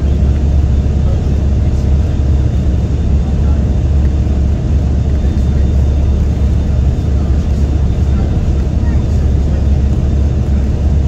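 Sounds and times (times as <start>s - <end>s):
hovercraft engine drone: 0.0s - 11.0s.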